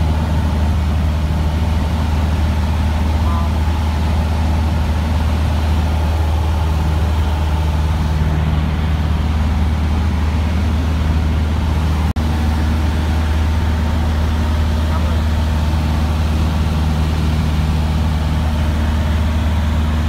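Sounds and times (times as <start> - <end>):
propeller plane engine droning: 0.0 - 20.0.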